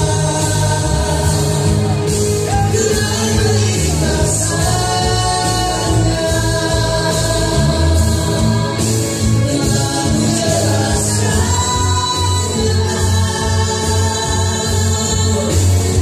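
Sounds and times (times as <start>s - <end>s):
group of people singing: 0.0s - 16.0s
pop band with strong bass: 0.0s - 16.0s.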